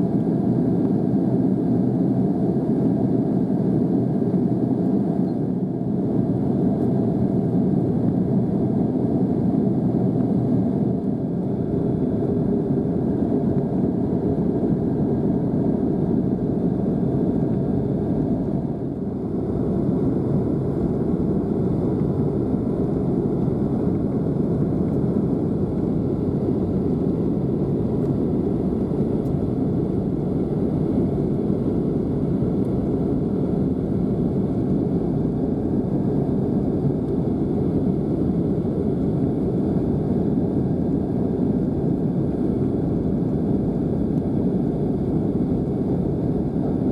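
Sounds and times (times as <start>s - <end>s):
jet engine cabin noise: 0.0s - 46.9s.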